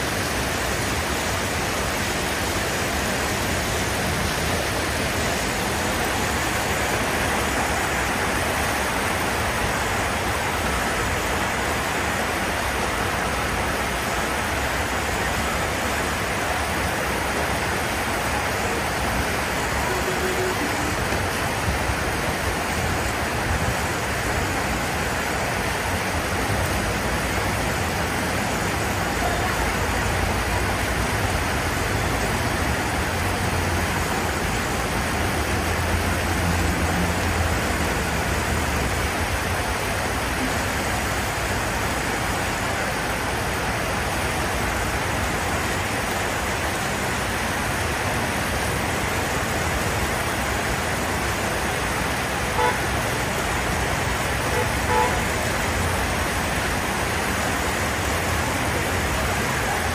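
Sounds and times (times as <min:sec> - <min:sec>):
traffic on flooded street: 0:00.0 - 0:59.9
vehicle engines rumbling: 0:00.0 - 0:59.9.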